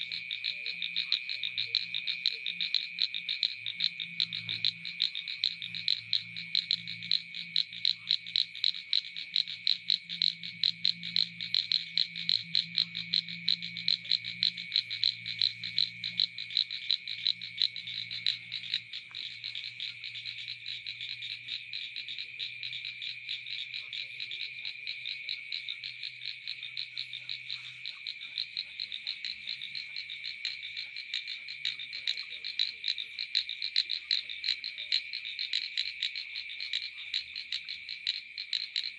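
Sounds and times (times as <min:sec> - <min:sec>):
frogs chorus: 0:00.0 - 0:38.9.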